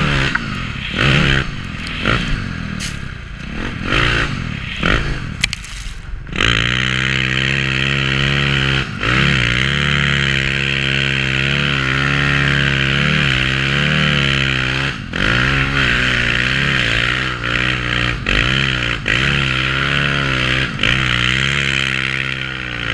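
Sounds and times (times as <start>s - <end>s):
dirt bike engine revving: 0.0s - 22.9s.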